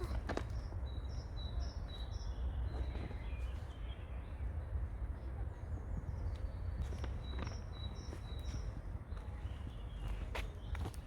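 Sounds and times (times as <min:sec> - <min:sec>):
small birds chirping: 0:00.0 - 0:04.5, 0:05.5 - 0:11.0.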